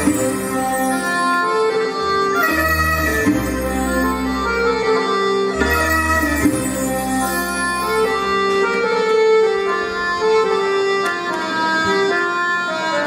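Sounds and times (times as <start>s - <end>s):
traditional ensemble instrumental music: 0.0s - 13.0s.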